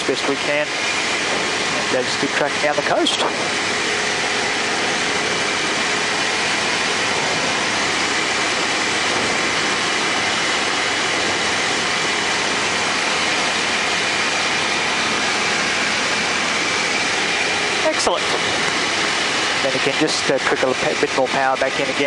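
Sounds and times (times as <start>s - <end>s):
aircraft engine and propeller: 0.0s - 22.0s.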